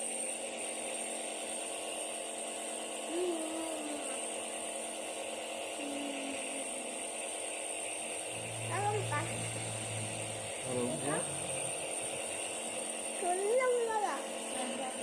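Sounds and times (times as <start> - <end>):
small electric motor humming: 0.0 - 15.0.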